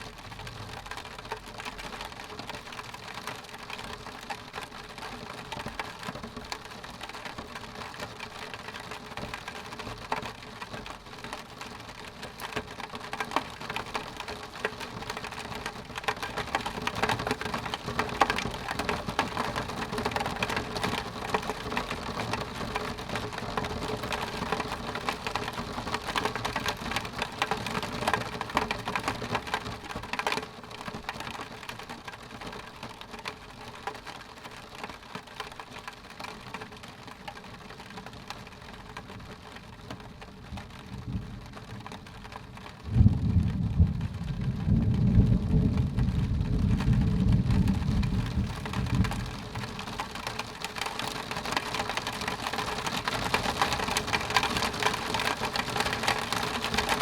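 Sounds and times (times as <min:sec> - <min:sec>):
rain on window glass: 0:00.0 - 0:57.0.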